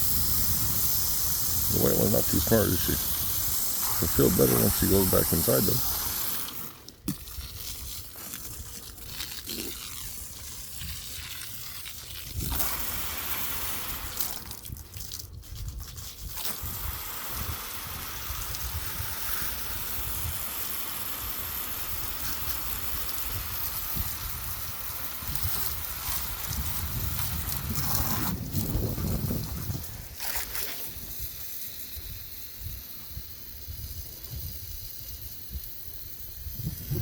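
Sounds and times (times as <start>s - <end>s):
wind rumbling on microphone: 0.0s - 5.9s, 10.3s - 13.1s, 13.9s - 20.4s, 22.0s - 37.0s
water spraying hiss: 0.0s - 15.2s, 15.9s - 37.0s.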